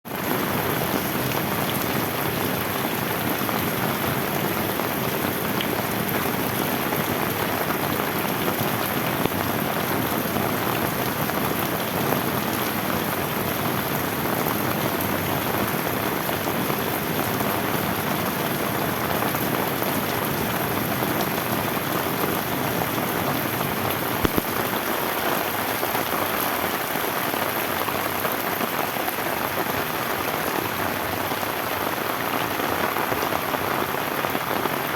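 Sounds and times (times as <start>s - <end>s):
heavy rain on bamboo: 0.0s - 34.9s.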